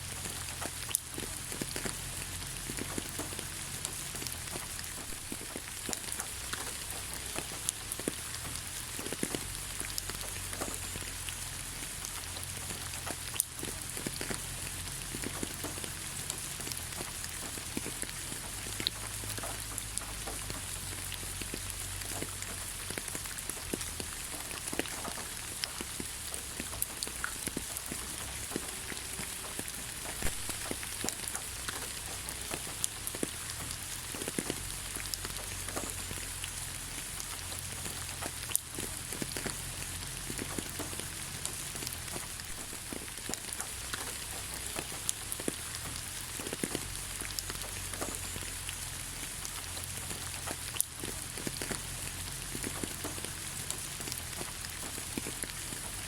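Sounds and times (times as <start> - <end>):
close raindrops striking: 0.0 - 56.0
steady rain hiss: 0.0 - 56.0.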